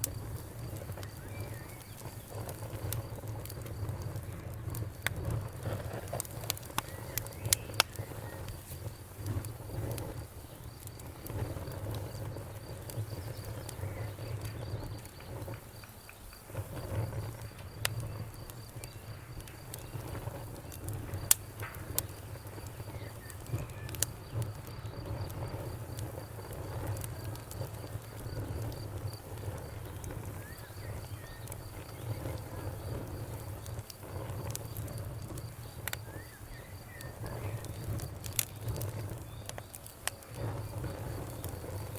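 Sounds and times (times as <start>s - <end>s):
campfire crackling and popping: 0.0s - 41.9s
crickets chirping: 0.0s - 41.9s.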